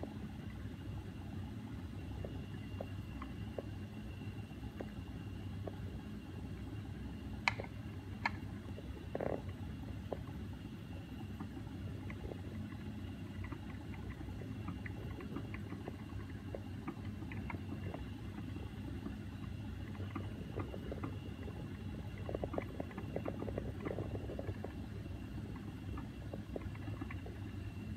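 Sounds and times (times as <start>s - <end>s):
magnetic stirrer humming: 0.0s - 27.9s.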